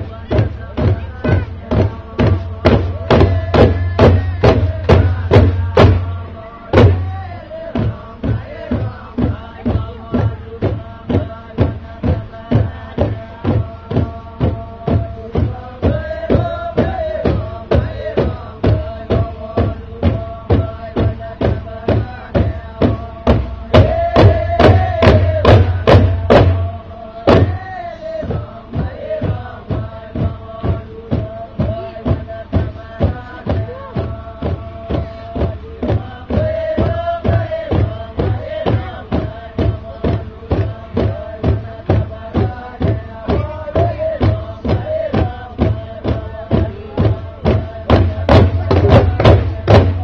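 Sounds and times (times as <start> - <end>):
drum beats: 0.0 - 50.0
voices chanting: 0.0 - 50.0.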